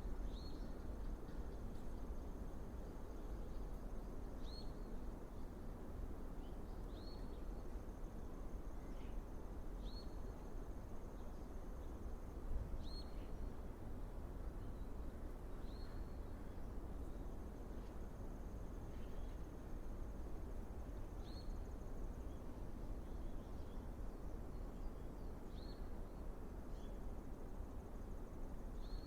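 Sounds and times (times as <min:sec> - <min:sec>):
faint insect drone: 0:00.0 - 0:29.0.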